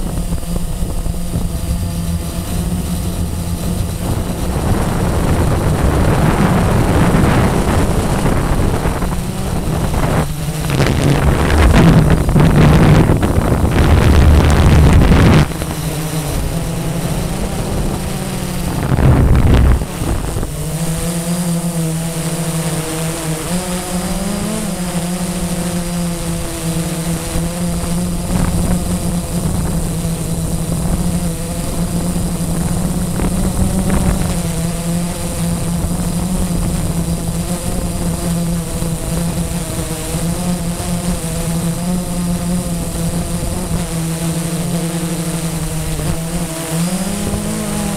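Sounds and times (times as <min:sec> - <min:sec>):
wind buffeting microphone: 0:00.0 - 0:22.8, 0:23.4 - 0:47.9
quadcopter propellers buzzing: 0:00.0 - 0:47.9.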